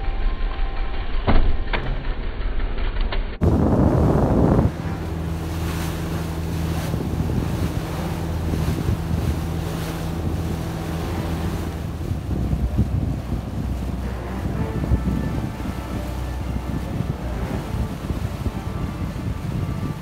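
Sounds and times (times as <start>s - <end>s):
boat engine humming: 3.4s - 20.0s
sea wash: 3.4s - 20.0s
wind buffeting microphone: 3.4s - 20.0s.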